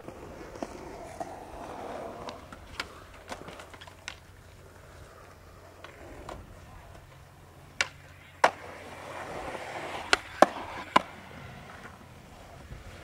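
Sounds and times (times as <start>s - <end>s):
skateboards clacking on concrete: 0.0s - 13.0s.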